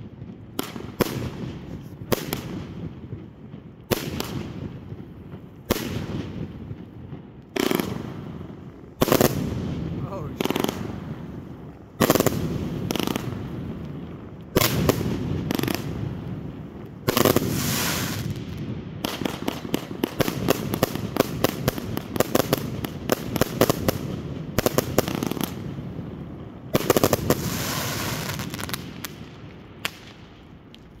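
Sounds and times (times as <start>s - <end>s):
rapid sharp firework bangs: 0.0s - 30.2s
firework bursts: 0.0s - 31.0s.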